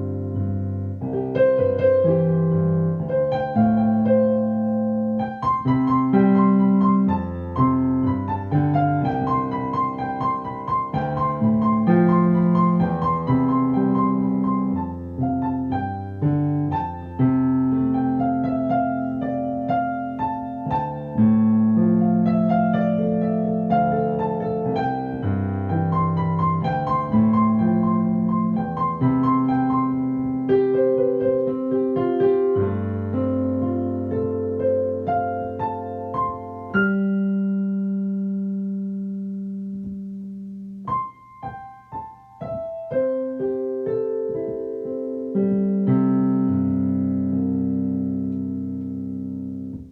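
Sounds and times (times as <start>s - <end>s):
solo piano playing: 0.0s - 49.9s.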